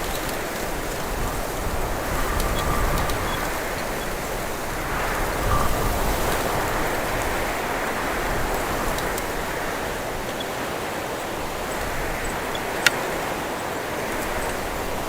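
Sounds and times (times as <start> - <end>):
wind buffeting microphone: 0.0 - 15.0
wind through branches: 0.0 - 15.0.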